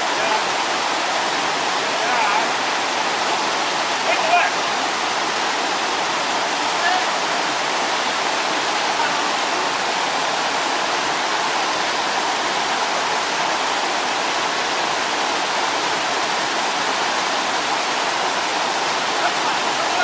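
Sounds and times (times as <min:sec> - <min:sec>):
stream rushing over boulders: 0:00.0 - 0:20.0.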